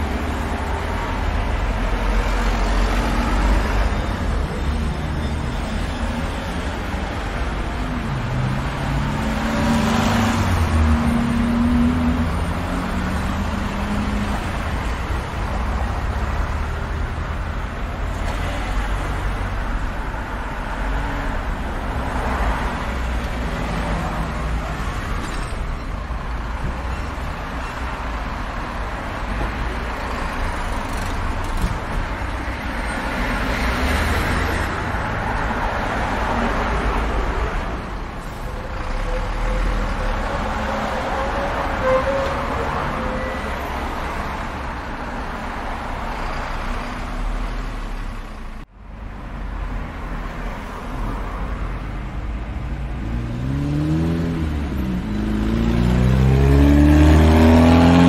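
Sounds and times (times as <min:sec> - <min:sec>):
cars driving past: 0:00.0 - 0:25.2, 0:26.7 - 0:58.0.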